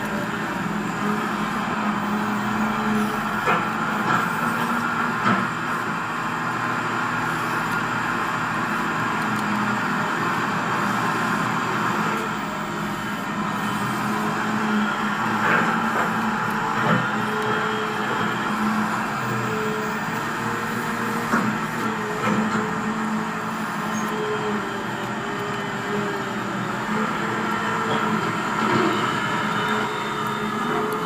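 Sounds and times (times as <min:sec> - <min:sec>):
electric motors and pump humming: 0:00.0 - 0:31.0.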